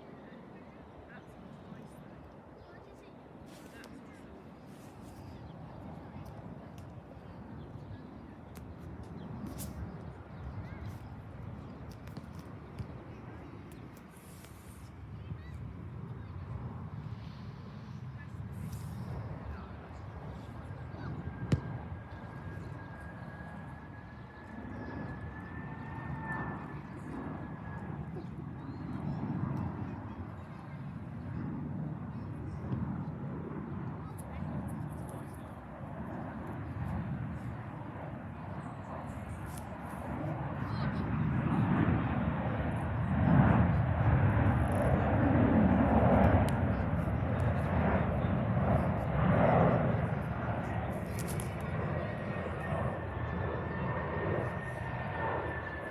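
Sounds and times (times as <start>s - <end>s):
jet engines rumbling and whining: 3.2s - 55.9s.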